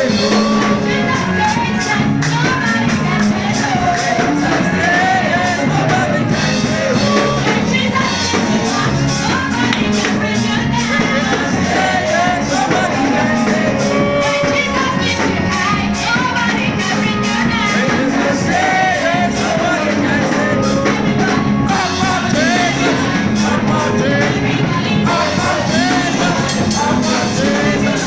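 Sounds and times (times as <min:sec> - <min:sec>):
drum and percussion beat: 0:00.0 - 0:28.0
gospel singing: 0:00.0 - 0:28.0.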